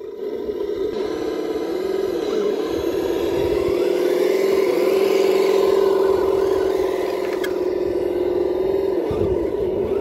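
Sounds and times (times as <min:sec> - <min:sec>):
pitched motor hum: 0:00.0 - 0:10.0
toy truck driving over dirt: 0:00.0 - 0:10.0.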